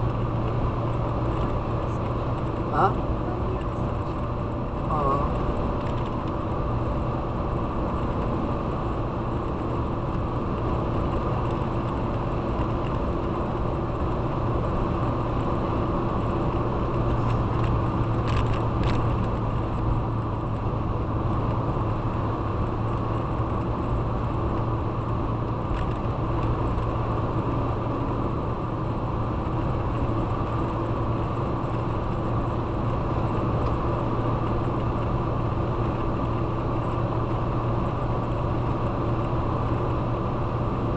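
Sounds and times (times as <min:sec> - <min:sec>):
constant low hum: 0:00.0 - 0:40.9
vehicle engine and road noise: 0:00.0 - 0:40.9.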